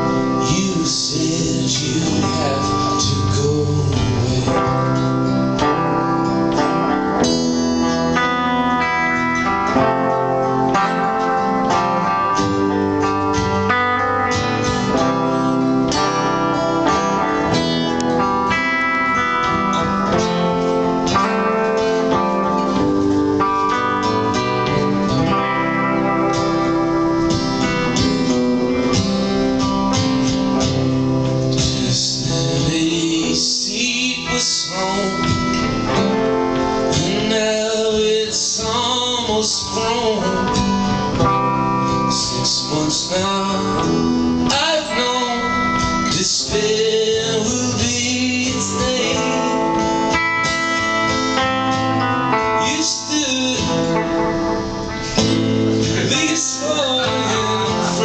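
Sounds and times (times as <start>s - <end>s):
acoustic guitars playing: 0.0s - 58.0s.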